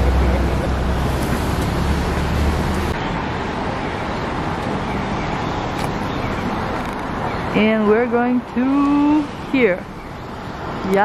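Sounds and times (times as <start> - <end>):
cars passing on street: 0.0 - 11.0.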